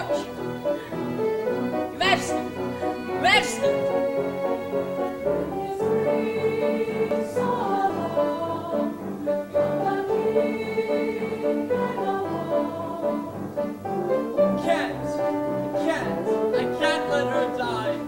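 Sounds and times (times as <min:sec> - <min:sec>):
chorus singing held notes: 0:00.0 - 0:18.0
instrumental accompaniment: 0:00.0 - 0:18.0.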